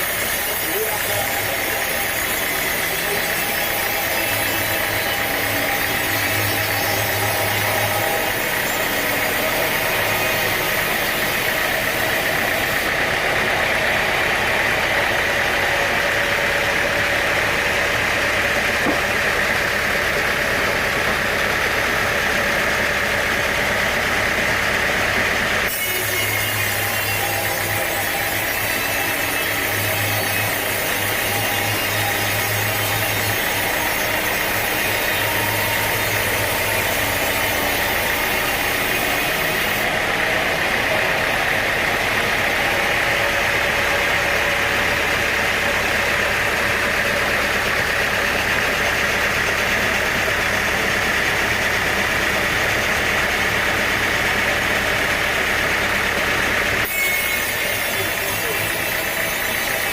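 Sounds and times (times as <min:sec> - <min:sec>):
engine hum: 0:00.0 - 0:25.7, 0:30.5 - 0:56.9
saw whine: 0:00.0 - 0:59.9.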